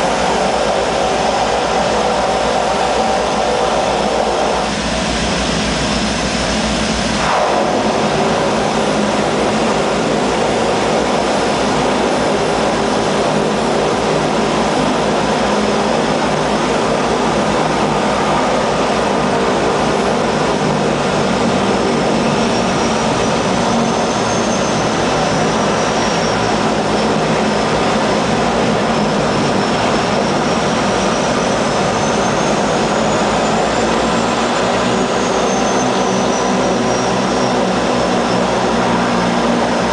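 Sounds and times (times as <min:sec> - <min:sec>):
faint high whine: 0:00.0 - 0:39.9
turboprop engines running: 0:00.0 - 0:39.9.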